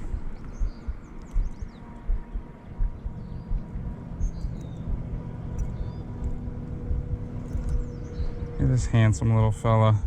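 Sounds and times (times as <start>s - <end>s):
bird chirps: 0.0s - 8.9s.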